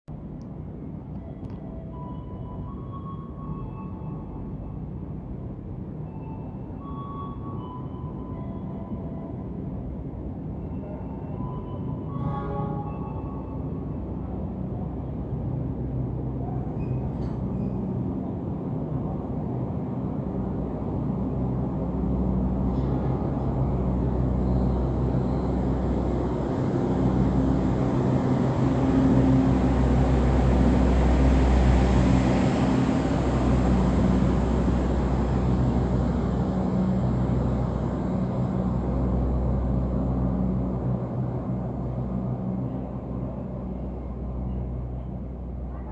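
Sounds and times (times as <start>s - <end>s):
train engine hum: 0.1s - 45.9s
rail noise: 0.2s - 45.9s.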